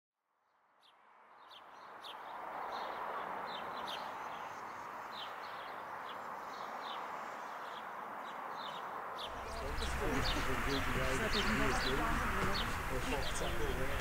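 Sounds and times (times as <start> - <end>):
small birds chirping: 0.8 - 14.0.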